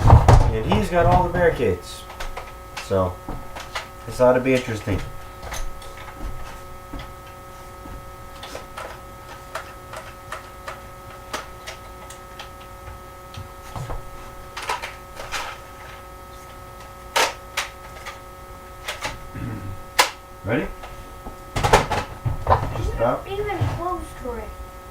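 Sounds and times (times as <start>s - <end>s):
steady electrical hum: 0.0s - 24.9s.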